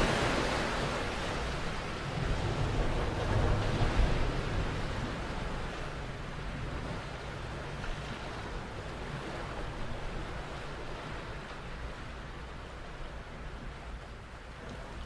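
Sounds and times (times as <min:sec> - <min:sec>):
ocean surf washing on shore: 0:00.0 - 0:15.0
wind rumble on microphone: 0:00.0 - 0:15.0.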